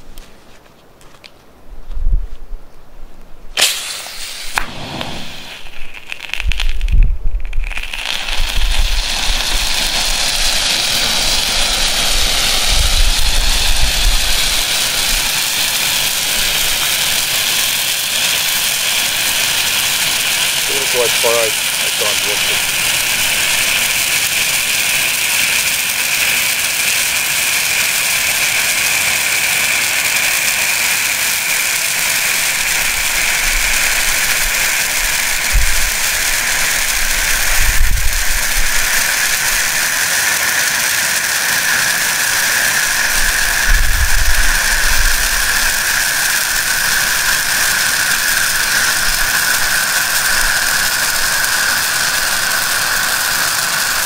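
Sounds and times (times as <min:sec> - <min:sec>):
flare burning with loud hiss: 0:03.5 - 0:54.0.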